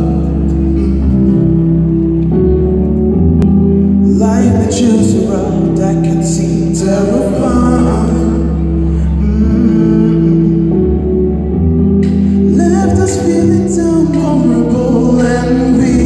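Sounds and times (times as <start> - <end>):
man singing pop song: 0.0 - 2.0, 4.0 - 11.2, 12.0 - 16.0
sustained backing chords: 0.0 - 16.0.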